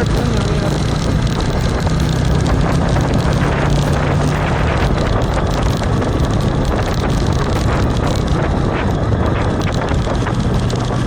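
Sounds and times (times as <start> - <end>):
vehicle engine humming: 0.0 - 11.0
wind noise on microphone: 0.0 - 11.0.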